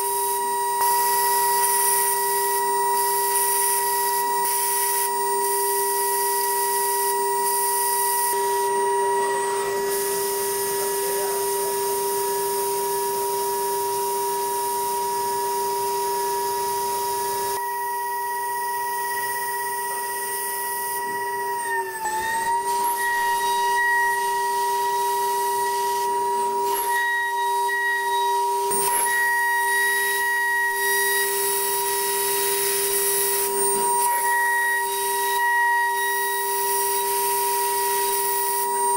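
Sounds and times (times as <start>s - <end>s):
milling machine spindle whining: 0.0s - 38.9s.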